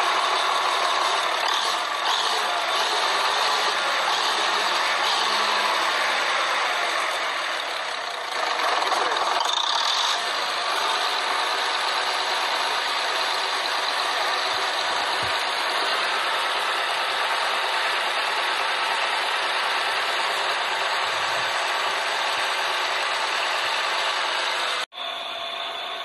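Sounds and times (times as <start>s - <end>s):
machinery running: 0.0s - 26.0s.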